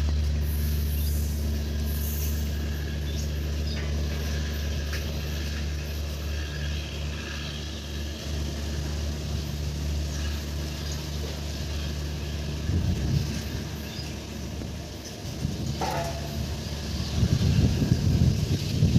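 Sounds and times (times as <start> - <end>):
passenger train rumbling: 0.0 - 18.9.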